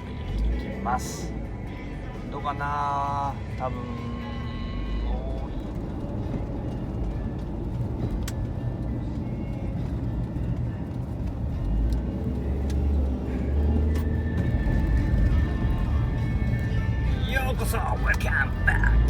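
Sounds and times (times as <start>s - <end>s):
car cabin road and engine noise: 0.0s - 19.0s.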